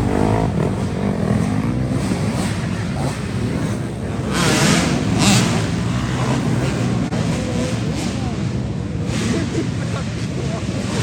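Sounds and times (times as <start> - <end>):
pit bike engines racing: 0.0 - 11.0.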